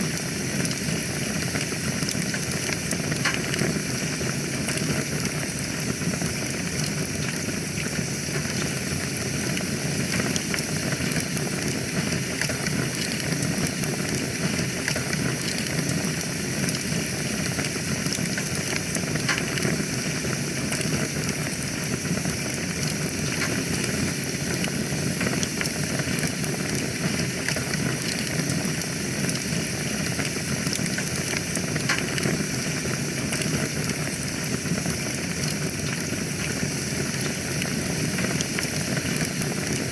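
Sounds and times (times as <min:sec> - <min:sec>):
fire hissing: 0:00.0 - 0:39.9
fire pops and snaps: 0:00.1 - 0:39.9.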